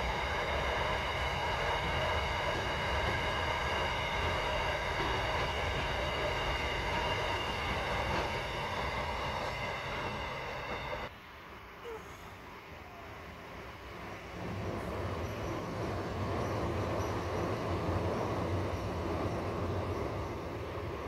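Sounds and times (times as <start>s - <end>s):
train wheels rumbling on rails: 0.0s - 11.6s, 13.0s - 21.0s.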